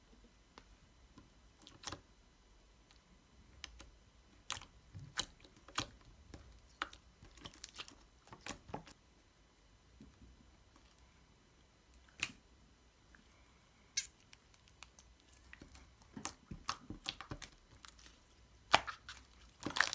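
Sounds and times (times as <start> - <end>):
faint low hum: 0.0 - 19.9.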